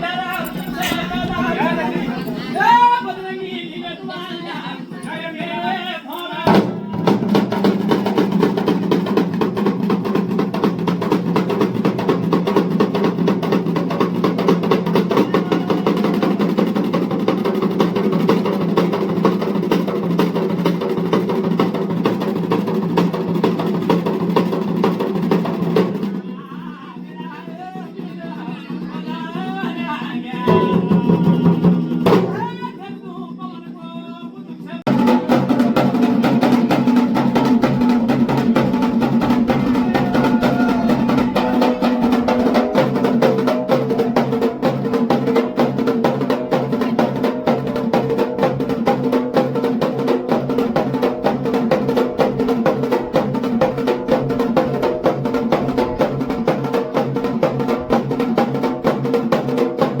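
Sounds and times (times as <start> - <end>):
fast steady drumming: 0.0 - 60.0.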